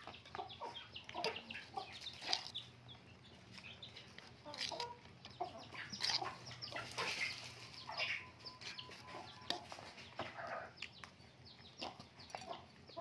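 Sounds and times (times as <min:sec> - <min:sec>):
puppies chirping: 0:00.0 - 0:13.0.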